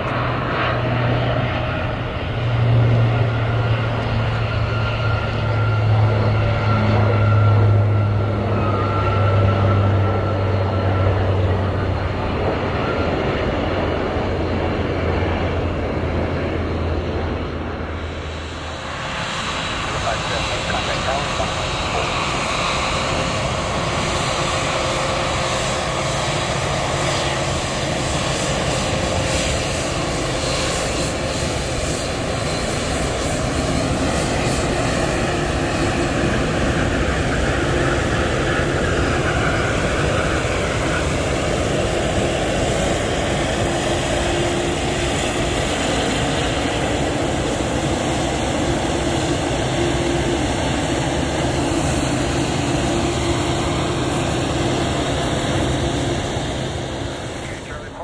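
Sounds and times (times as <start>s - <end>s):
airliner jet engines taxiing: 0.0s - 58.0s.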